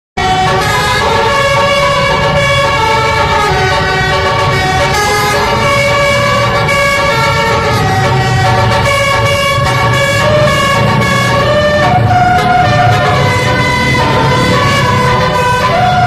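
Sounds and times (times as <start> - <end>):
multi-tone bus horn melody: 0.2 - 16.0.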